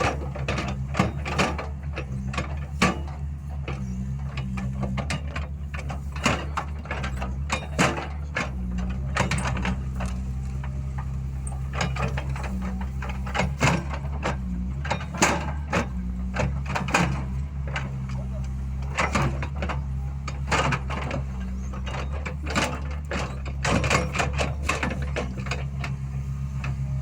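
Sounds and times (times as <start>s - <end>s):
metallic clanks and knocks: 0.0s - 26.8s
machinery engine running: 0.0s - 27.0s.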